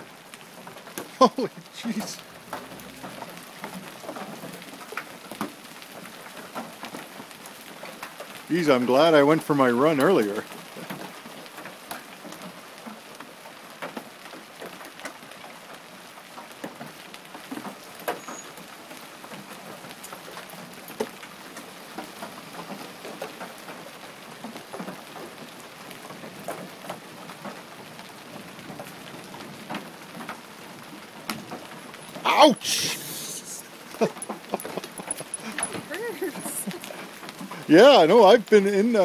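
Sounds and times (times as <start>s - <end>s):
hail pelting down: 0.0s - 39.0s.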